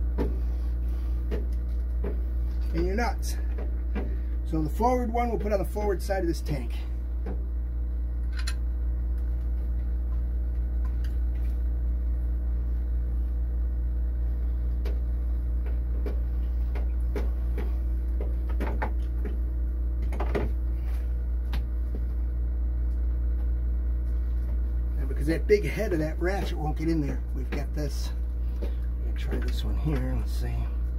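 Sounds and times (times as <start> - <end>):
low hum: 0.0 - 30.9.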